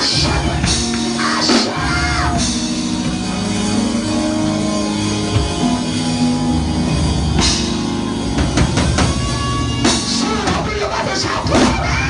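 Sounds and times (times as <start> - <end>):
church band playing: 0.0 - 12.0.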